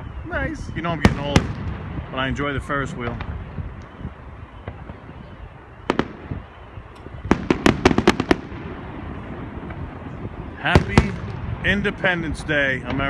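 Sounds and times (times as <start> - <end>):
fireworks bangs: 0.0 - 13.0
low outdoor rumble: 0.0 - 13.0.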